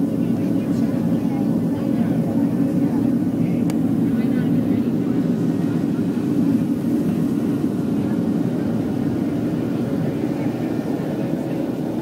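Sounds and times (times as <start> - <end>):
jet engine drone in cabin: 0.0 - 12.0.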